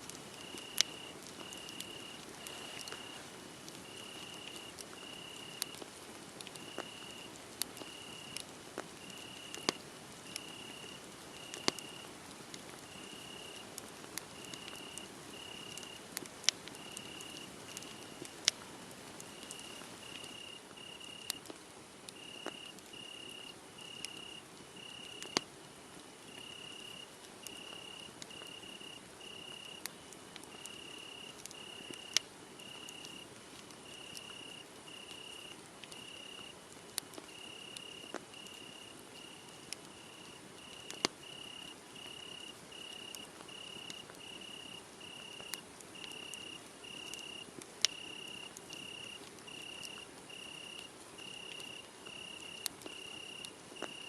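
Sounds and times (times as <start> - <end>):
wood fire crackling and popping: 0.0 - 54.0
crickets chirping: 0.4 - 5.8, 6.6 - 8.4, 9.0 - 12.1, 12.8 - 13.6, 14.4 - 16.1, 16.8 - 18.4, 19.3 - 21.4, 22.2 - 25.4, 26.3 - 29.8, 30.5 - 33.2, 33.8 - 36.5, 37.3 - 54.0.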